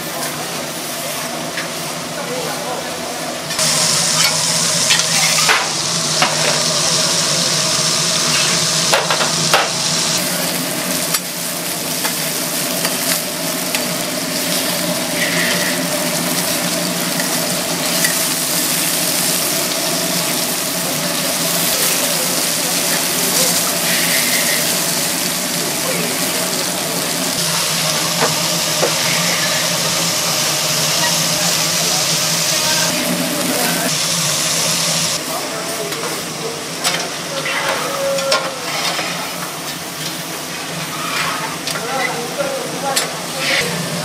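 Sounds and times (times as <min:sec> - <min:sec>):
fish sizzling on a grill: 0:00.1 - 0:44.0.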